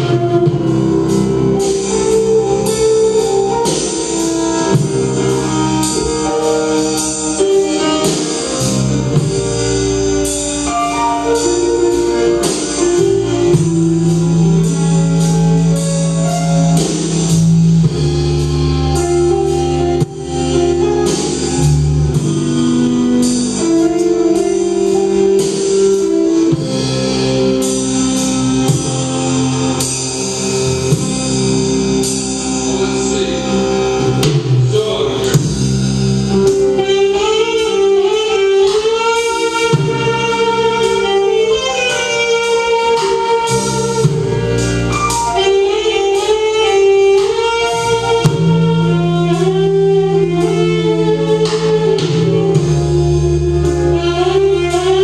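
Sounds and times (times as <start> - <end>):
drum kit beat: 0.0 - 55.0
rock band playing live: 0.0 - 55.0.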